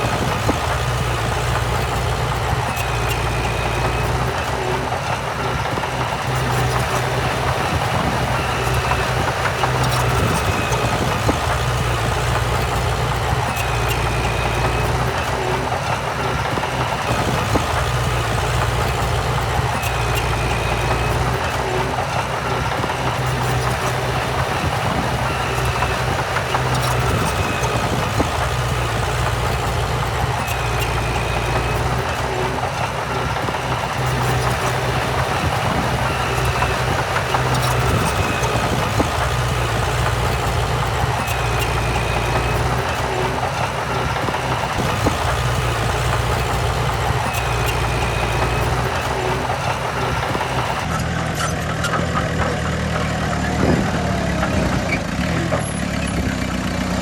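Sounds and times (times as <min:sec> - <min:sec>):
diesel machinery engine hum: 0:00.0 - 0:57.0.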